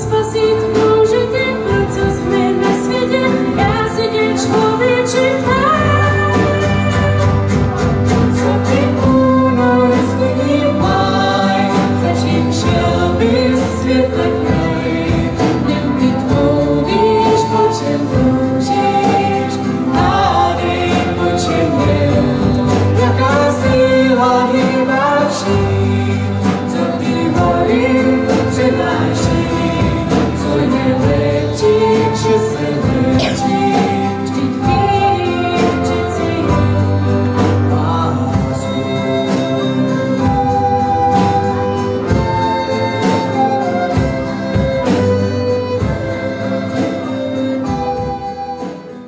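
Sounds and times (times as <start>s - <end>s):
woman and man singing: 0.0s - 48.9s.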